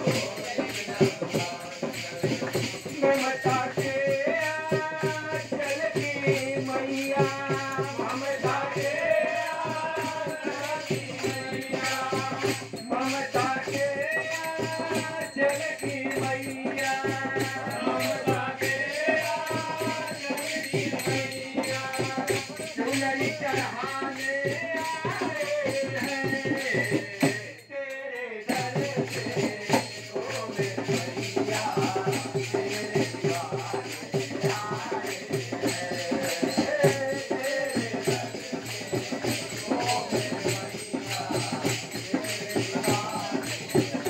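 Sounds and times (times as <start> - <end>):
hand percussion beat: 0.0 - 44.0
man singing into microphone: 0.0 - 44.0.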